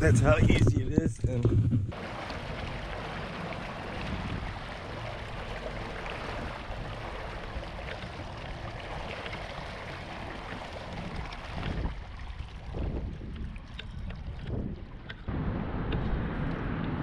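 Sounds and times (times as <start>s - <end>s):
water lapping against boat hull: 0.0s - 15.3s.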